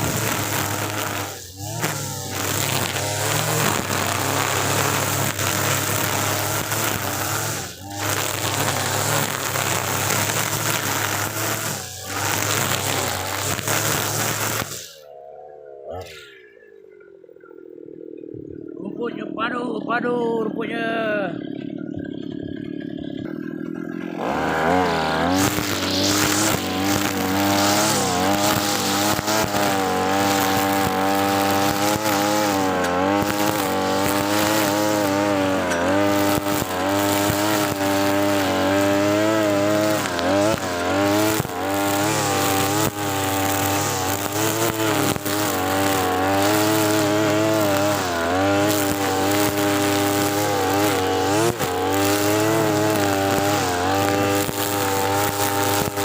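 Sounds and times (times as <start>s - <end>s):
brush cutter engine at full throttle: 0.0s - 16.2s, 17.7s - 56.0s.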